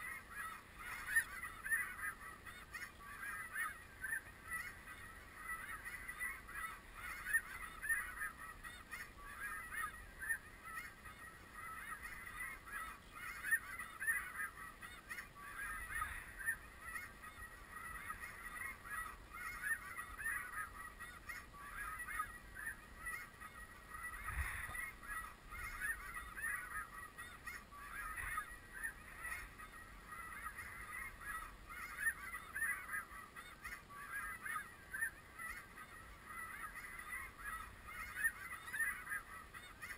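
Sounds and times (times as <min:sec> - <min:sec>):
snow geese honking: 0:00.0 - 0:39.9.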